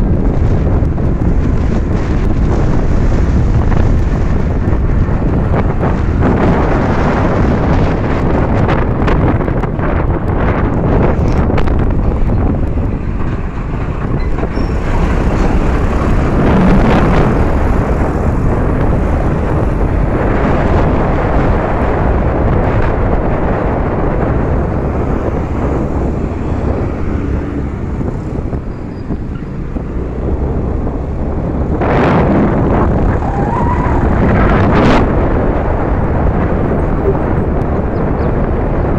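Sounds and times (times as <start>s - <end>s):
low rumble of road traffic: 0.0s - 38.9s
truck passing: 0.0s - 38.9s
wind rushing over microphone: 0.0s - 38.9s.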